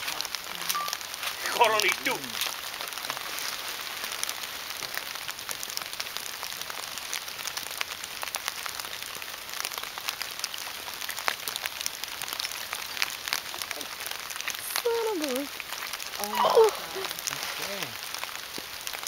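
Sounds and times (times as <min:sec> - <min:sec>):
rain pattering on foliage: 0:00.0 - 0:19.0.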